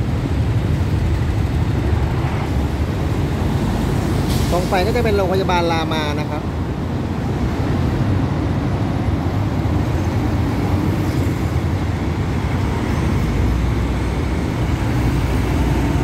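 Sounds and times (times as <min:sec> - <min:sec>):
cars driving past: 0:00.0 - 0:16.0
traffic low rumble: 0:00.0 - 0:16.0.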